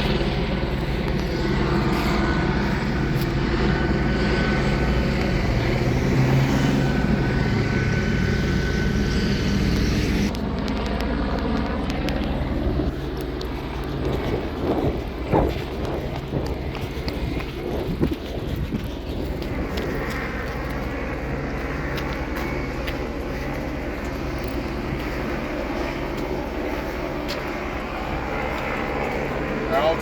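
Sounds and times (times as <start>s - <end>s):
helicopter rotor and engine drone: 0.0s - 30.0s.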